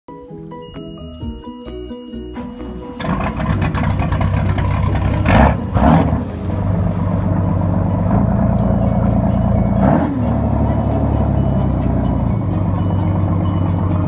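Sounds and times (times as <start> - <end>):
engine running: 2.4 - 14.0.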